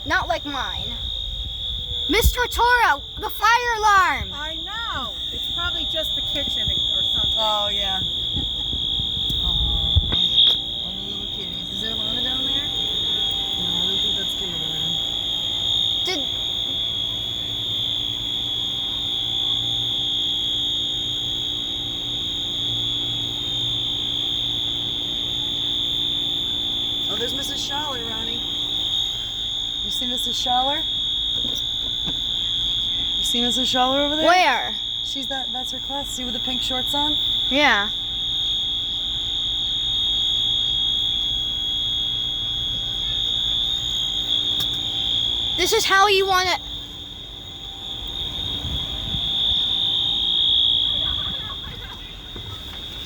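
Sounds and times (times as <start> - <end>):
fire alarm high-pitched tone: 0.0 - 53.0.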